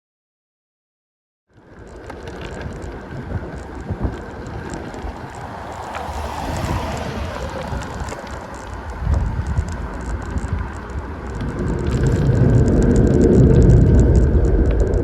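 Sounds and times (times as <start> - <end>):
small clicks: 1.5 - 15.0
tyre and road noise: 1.5 - 15.0
wind rushing over microphone: 1.6 - 15.0.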